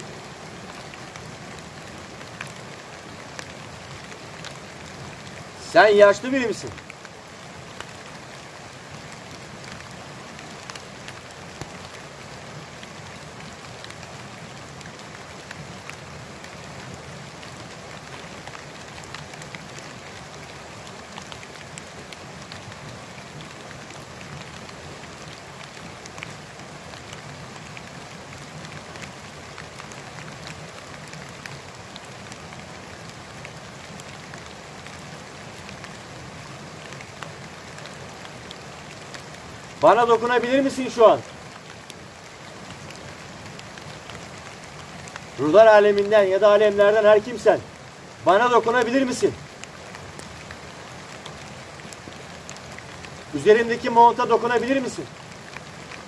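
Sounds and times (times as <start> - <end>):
light drizzle falling: 0.0 - 56.0.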